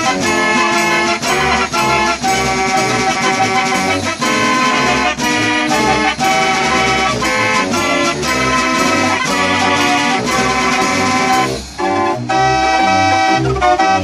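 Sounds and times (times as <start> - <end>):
fair organ playing a march: 0.0 - 14.0
organ drums beating: 0.0 - 14.0.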